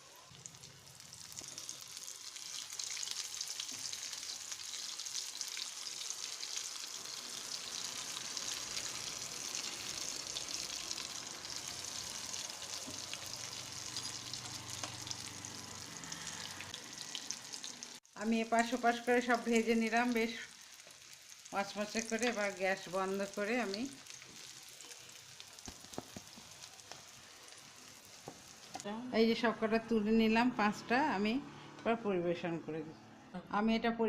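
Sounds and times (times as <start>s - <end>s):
cutlets sizzling in hot oil: 0.0s - 28.9s.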